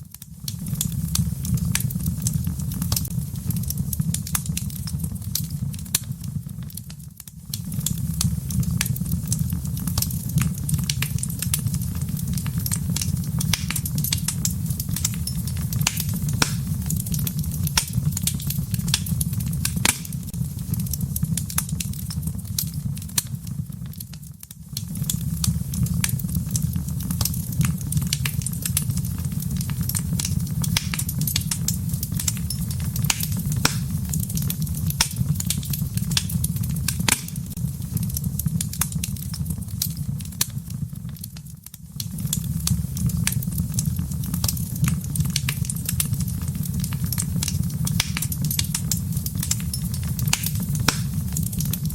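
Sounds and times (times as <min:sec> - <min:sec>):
low rumble of flames: 0:00.0 - 0:51.9
wood fire pops and snaps: 0:00.0 - 0:51.9.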